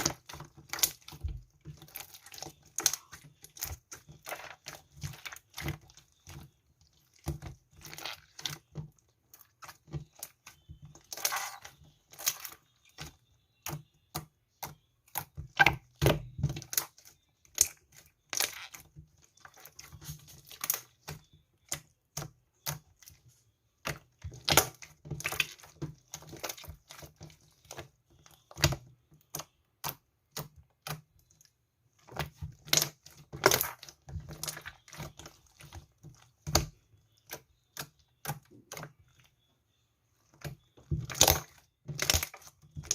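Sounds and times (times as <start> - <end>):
slime clicking and crackling: 0.0 - 8.7, 9.3 - 23.1, 23.9 - 31.2, 32.1 - 39.0, 40.4 - 42.9.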